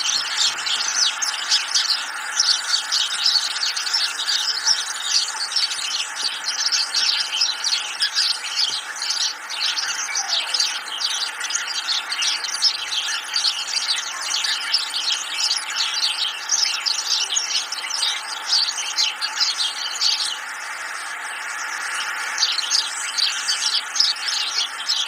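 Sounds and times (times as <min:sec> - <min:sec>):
chorus of high bird chirping: 0:00.0 - 0:25.0.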